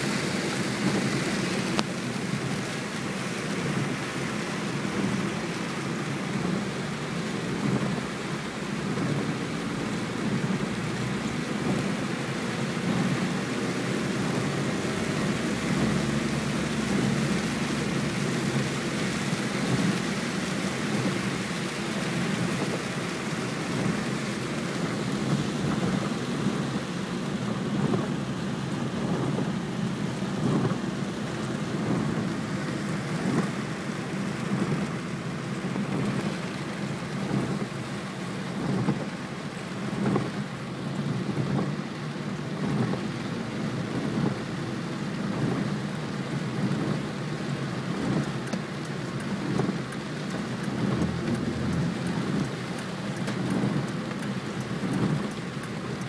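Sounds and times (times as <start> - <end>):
heavy rain drumming on car: 0.0 - 56.0
low rumble of road noise: 0.0 - 56.0.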